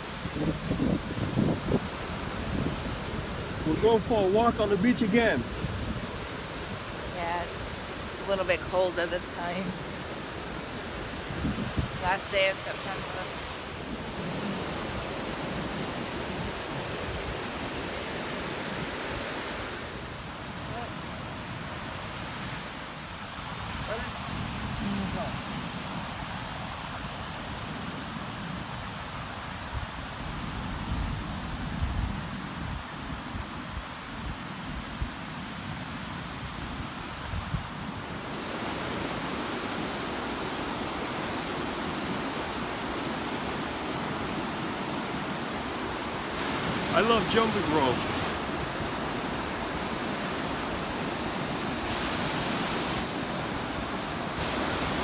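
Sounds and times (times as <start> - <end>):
ocean surf breaking: 0.0 - 30.3, 35.8 - 55.0
wind rumbling on microphone: 0.0 - 55.0.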